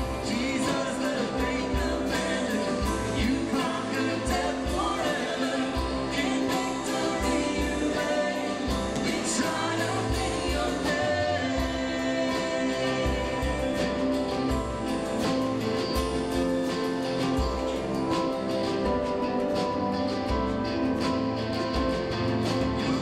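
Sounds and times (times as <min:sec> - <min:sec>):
bass line: 0:00.0 - 0:23.0
people singing: 0:00.0 - 0:23.0
steady drum beat: 0:00.0 - 0:23.0.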